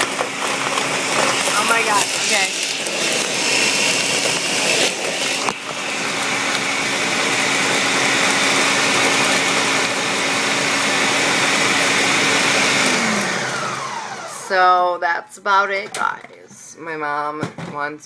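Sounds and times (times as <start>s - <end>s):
blender running: 0.0s - 15.0s.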